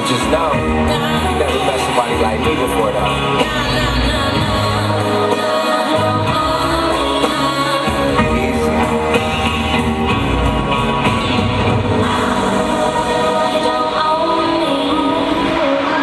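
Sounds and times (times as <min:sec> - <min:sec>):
song with singing over loudspeaker: 0:00.0 - 0:16.0.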